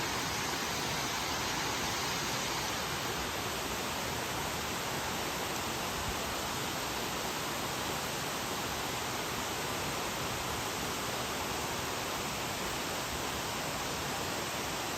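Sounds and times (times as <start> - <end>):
steady hiss of noise: 0.0 - 14.9.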